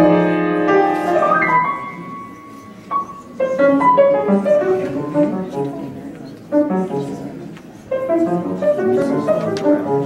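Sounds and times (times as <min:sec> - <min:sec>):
solo grand piano: 0:00.0 - 0:10.0.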